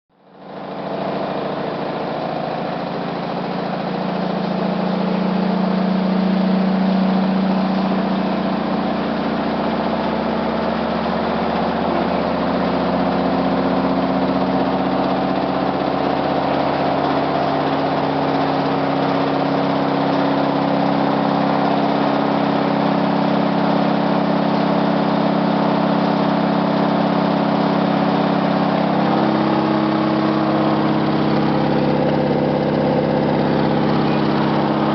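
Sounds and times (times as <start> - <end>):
washing machine drum spinning: 0.4 - 34.9.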